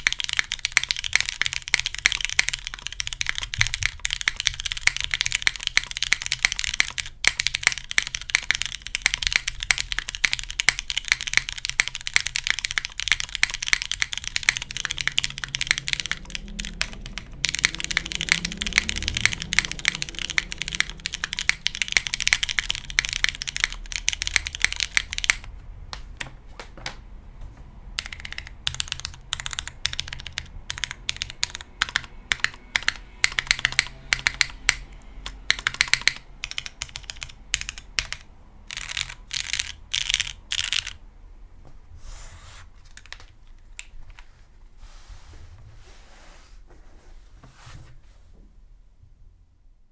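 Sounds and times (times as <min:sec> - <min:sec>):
mechanical keyboard typing: 0:00.0 - 0:26.9, 0:28.0 - 0:41.0, 0:42.8 - 0:44.3.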